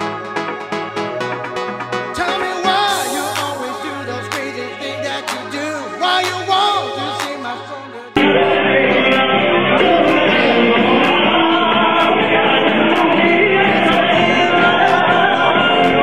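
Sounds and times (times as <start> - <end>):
upbeat song with vocals: 0.0 - 16.0.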